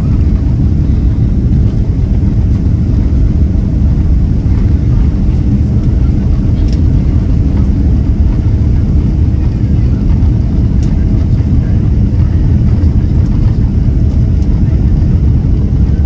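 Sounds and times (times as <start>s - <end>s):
airplane engines and airflow roar: 0.0s - 16.0s.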